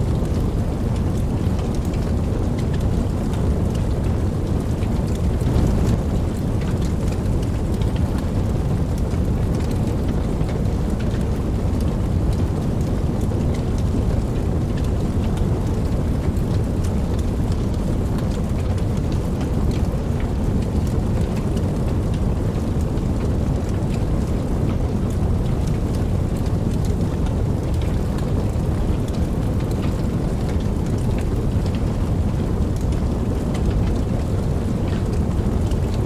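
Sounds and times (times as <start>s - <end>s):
deep continuous rumble: 0.0s - 36.0s
heavy rainfall: 0.0s - 36.0s.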